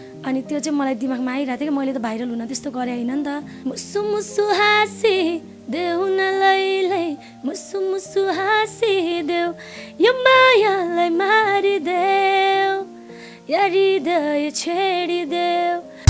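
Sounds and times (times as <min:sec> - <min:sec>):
woman singing: 0:00.2 - 0:16.0.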